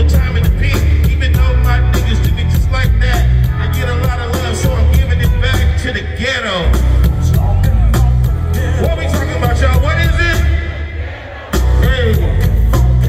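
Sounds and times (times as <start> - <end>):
booming bass beat: 0.0 - 6.0, 6.6 - 10.8, 11.5 - 13.0
rapped vocals: 0.0 - 13.0.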